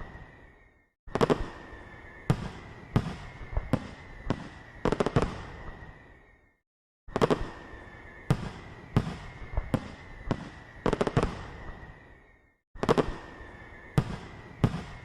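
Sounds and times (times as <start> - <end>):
fireworks bangs and crackles: 0.0 - 6.4, 7.1 - 15.0.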